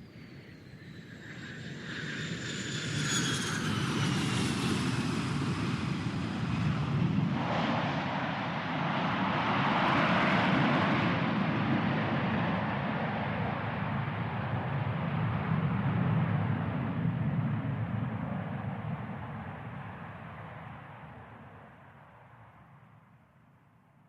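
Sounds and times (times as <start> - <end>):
airplane engine whine: 0.0 - 23.2.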